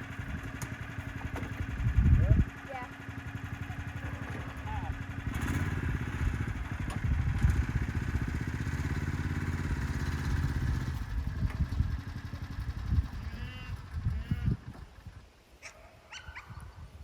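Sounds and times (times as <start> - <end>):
vehicle engine running: 0.0 - 15.3.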